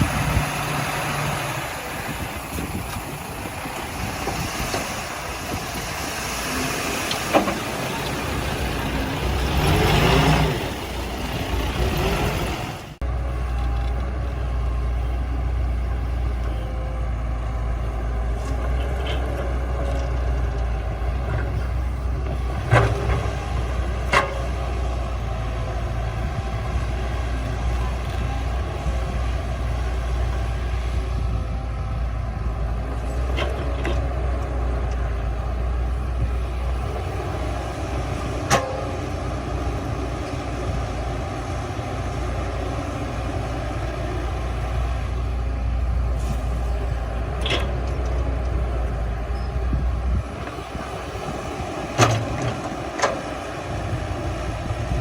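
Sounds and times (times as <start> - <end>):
diesel engine drone: 0.0 - 55.0
noisy machinery rush: 0.0 - 55.0.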